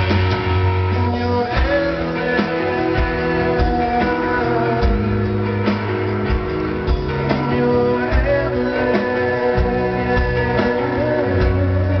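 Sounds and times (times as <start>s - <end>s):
guitars sustained chords: 0.0s - 12.0s.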